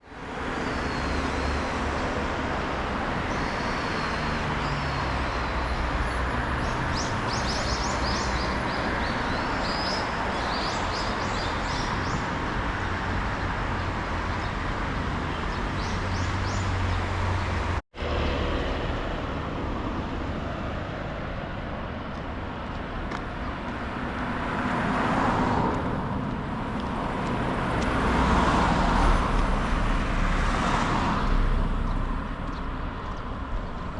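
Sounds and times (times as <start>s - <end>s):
car road and engine noise: 0.0s - 33.9s.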